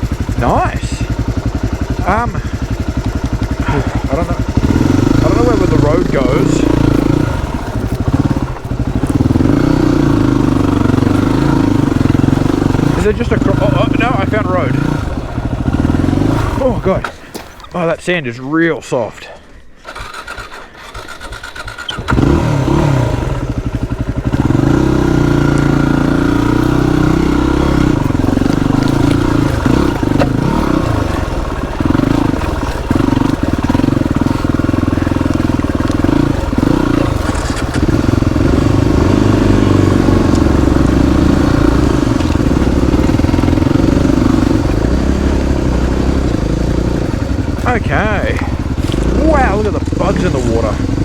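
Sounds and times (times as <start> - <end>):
motorcycle engine running: 0.0 - 17.3, 19.8 - 51.0.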